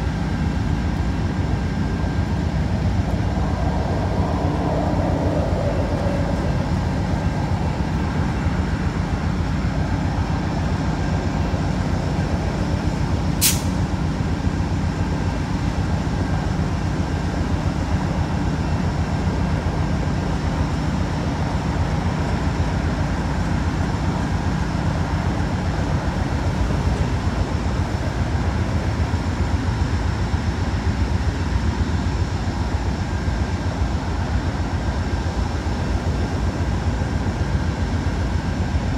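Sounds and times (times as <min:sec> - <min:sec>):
diesel locomotive idling: 0:00.0 - 0:38.9.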